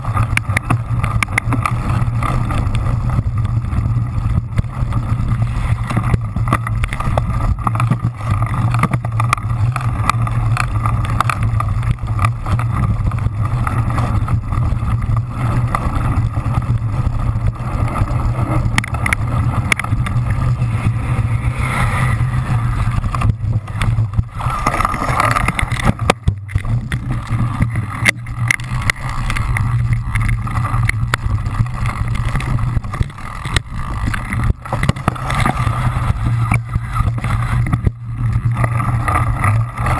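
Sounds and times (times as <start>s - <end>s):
bike rattles and knocks: 0.0s - 39.9s
bike tyres and frame rumbling: 0.0s - 39.9s
wind on microphone: 0.0s - 39.9s.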